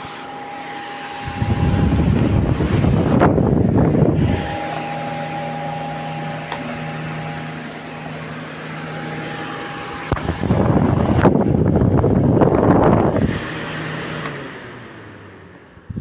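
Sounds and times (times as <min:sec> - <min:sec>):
desk fan humming: 0:00.0 - 0:16.0
fan airflow rushing on microphone: 0:00.0 - 0:16.0.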